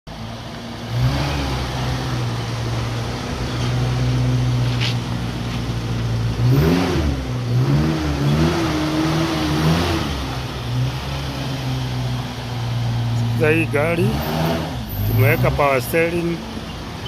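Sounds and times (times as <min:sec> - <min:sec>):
car engine idling and revving: 0:00.1 - 0:17.0.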